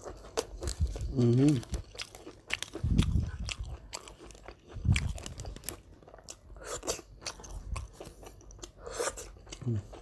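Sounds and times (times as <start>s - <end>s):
chewing crispy fried fish: 0.0s - 10.0s.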